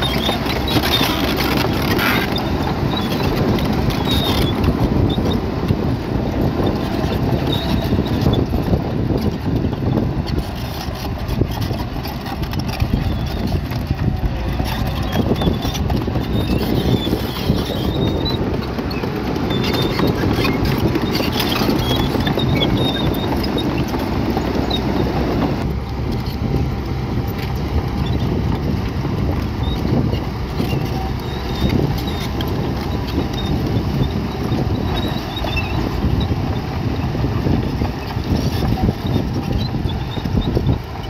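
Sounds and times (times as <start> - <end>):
bulldozer engine running: 0.0 - 41.0
tracks clanking and scraping: 0.0 - 41.0.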